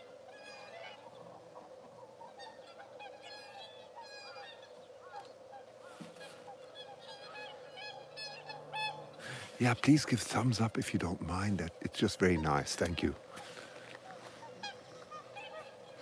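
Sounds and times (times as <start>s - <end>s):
swans and cranes calling: 0.0s - 16.0s.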